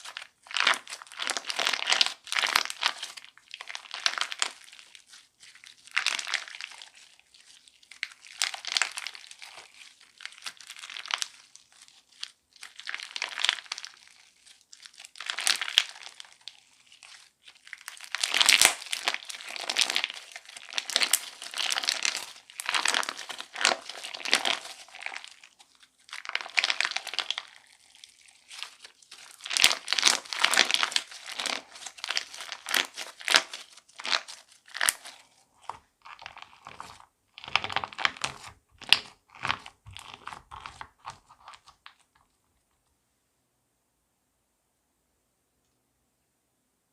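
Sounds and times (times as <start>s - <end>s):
crunchy slime crackling: 0.0s - 42.2s.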